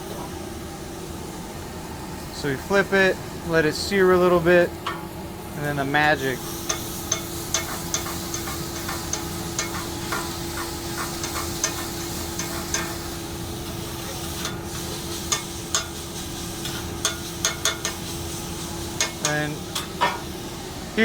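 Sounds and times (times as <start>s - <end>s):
steak sizzling on a griddle: 2.1s - 21.0s.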